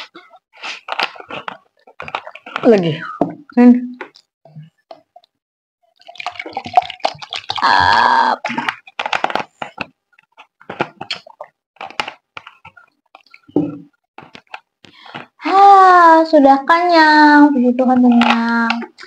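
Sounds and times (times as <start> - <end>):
gulps and swallows: 0.0 - 15.4.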